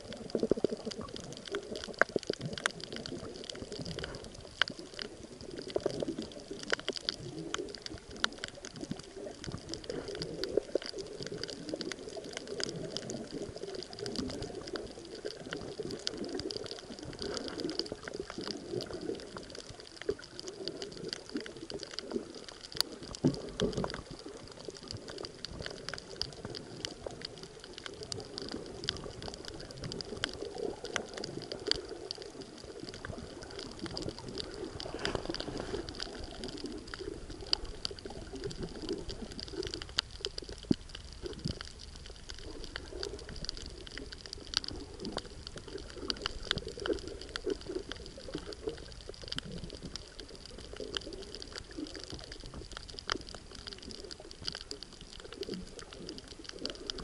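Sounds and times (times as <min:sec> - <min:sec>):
muffled underwater water noise: 0:00.0 - 0:57.0
sharp clicks and crackles: 0:00.0 - 0:57.0.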